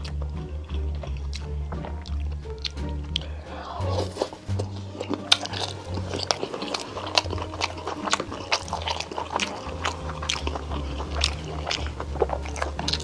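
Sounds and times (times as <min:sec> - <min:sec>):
soft background music: 0:00.0 - 0:13.0
wet chewing and mouth smacks: 0:00.0 - 0:13.0.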